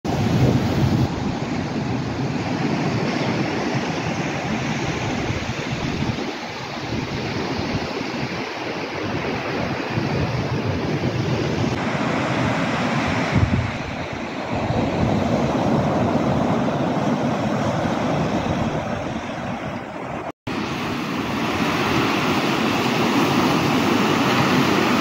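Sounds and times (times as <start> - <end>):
sea surf breaking on beach: 0.1 - 25.0
wind rumbling on microphone: 0.1 - 25.0.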